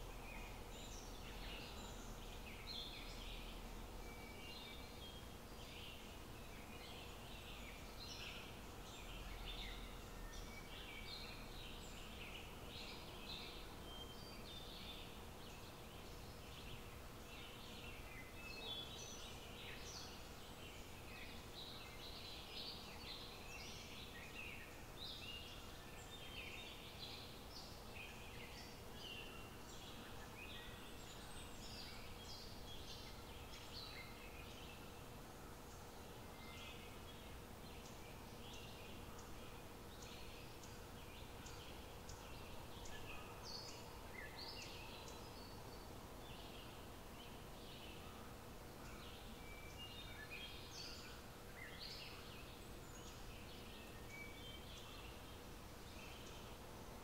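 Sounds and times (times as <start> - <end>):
faint steady hum: 0.0 - 57.0
outdoor background noise: 0.0 - 57.0
songbirds chirping and calling: 0.0 - 57.0.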